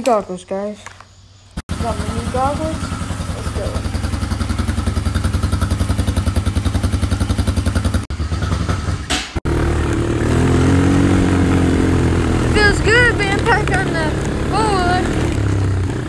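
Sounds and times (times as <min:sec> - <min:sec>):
small motorbike engine: 0:01.6 - 0:16.0.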